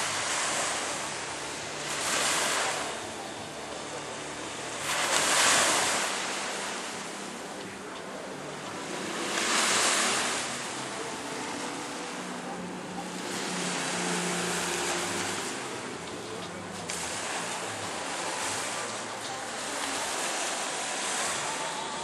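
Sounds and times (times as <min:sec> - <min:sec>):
sea waves washing in: 0:00.0 - 0:22.0.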